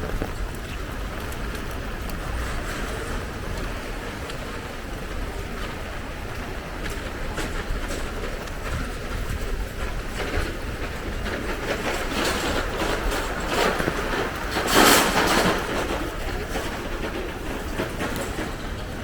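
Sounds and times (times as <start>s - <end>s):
sharp rain drop ticks: 0.0s - 18.8s
steady rain falling: 0.0s - 19.0s.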